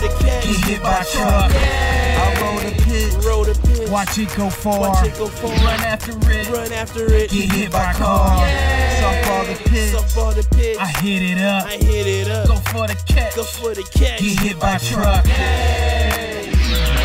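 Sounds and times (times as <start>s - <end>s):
hip hop music: 0.0s - 17.0s.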